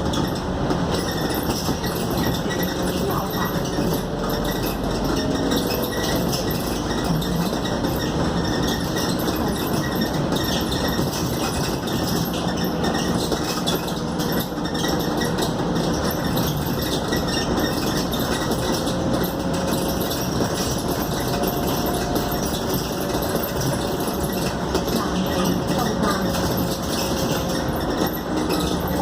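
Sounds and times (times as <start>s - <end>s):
bus engine and road noise: 0.0s - 29.0s.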